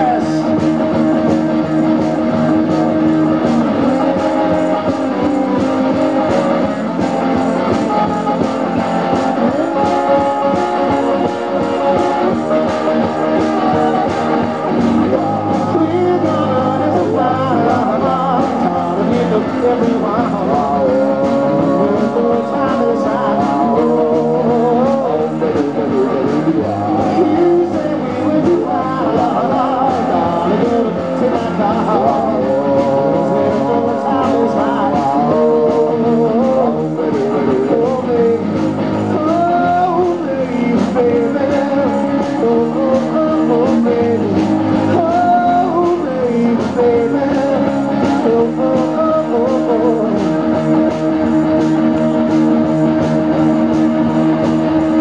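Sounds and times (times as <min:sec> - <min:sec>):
distorted electric guitars: 0:00.0 - 0:55.0
drum beat: 0:00.0 - 0:55.0
person singing: 0:00.0 - 0:55.0.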